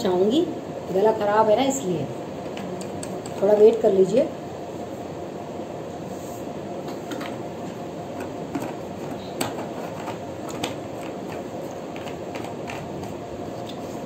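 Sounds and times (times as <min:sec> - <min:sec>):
steady room hum: 0:00.0 - 0:14.0.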